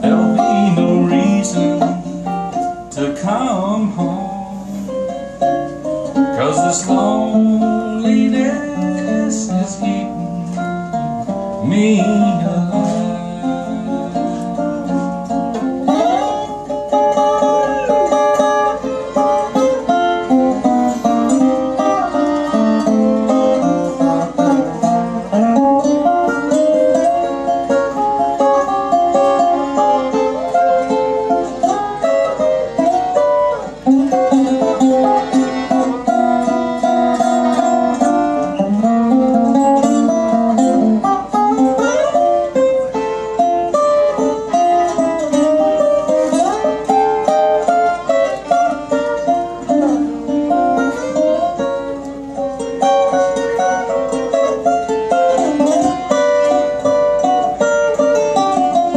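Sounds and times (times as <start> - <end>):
resonator guitar picking: 0.0 - 58.9
fiddle bowing melody: 3.6 - 58.9.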